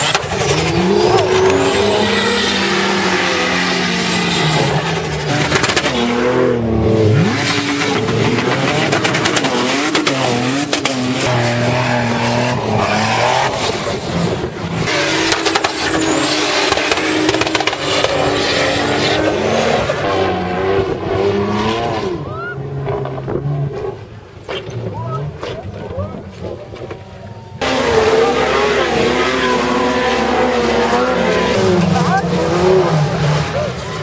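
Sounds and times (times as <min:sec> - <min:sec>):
engines revving hard: 0:00.0 - 0:34.0.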